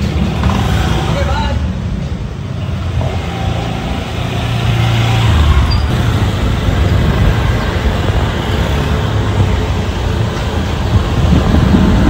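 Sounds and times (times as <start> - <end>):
motor scooter engines running: 0.0 - 12.0
road traffic: 0.0 - 12.0.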